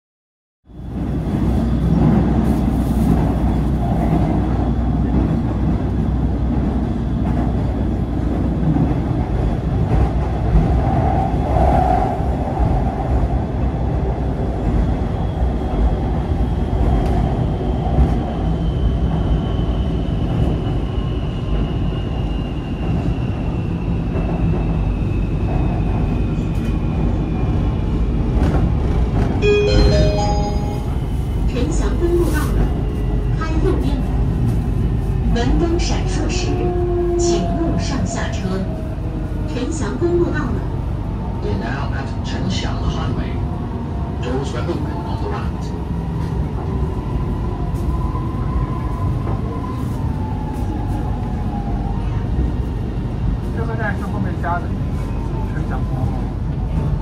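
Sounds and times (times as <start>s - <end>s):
train low rumble: 0.7s - 57.0s.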